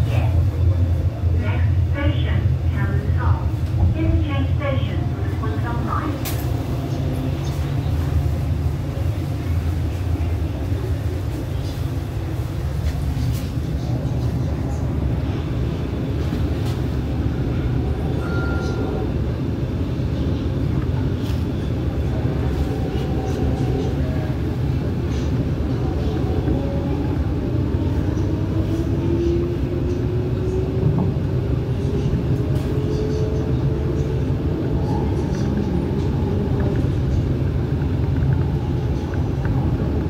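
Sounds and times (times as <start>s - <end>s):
train rumbling along track: 0.0s - 40.0s.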